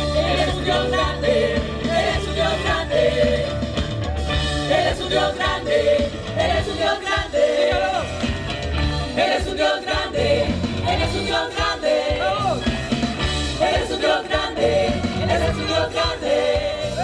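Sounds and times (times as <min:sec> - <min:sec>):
band playing worship music: 0:00.0 - 0:17.0
people singing: 0:00.0 - 0:17.0.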